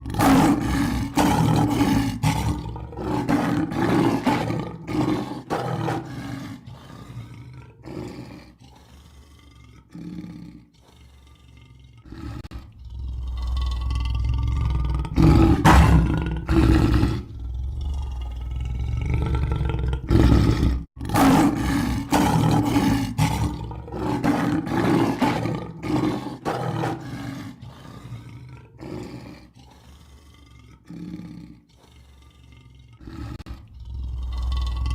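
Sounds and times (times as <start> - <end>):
lion roaring: 0.0 - 34.9.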